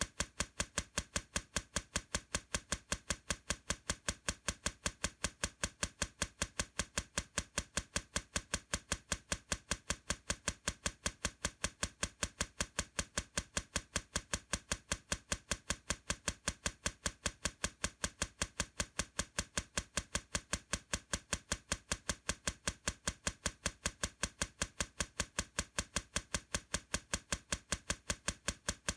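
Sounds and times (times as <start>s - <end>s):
steady clock ticking: 0.0s - 28.9s.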